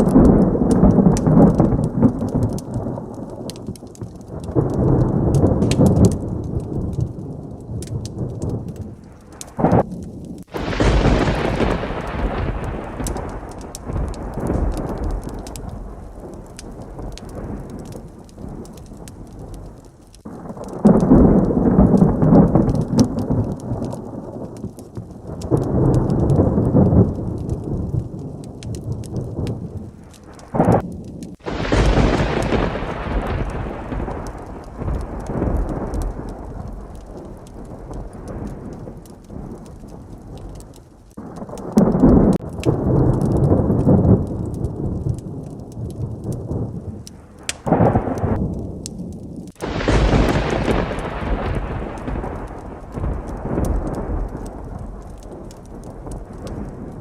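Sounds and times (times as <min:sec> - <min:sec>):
heavy rain: 0:00.0 - 0:57.0
sharp close thunderclap: 0:00.0 - 0:57.0
thunder rolling: 0:00.0 - 0:57.0.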